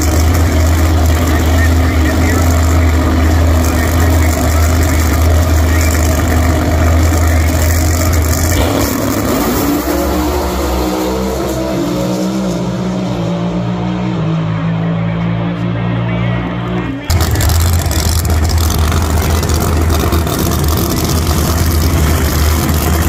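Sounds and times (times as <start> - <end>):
race car engines idling: 0.0 - 23.0.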